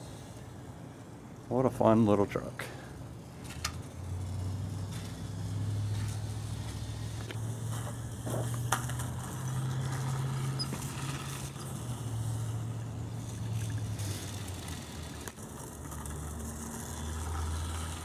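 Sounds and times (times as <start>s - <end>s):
rc truck electric motor whirring: 3.0s - 18.0s.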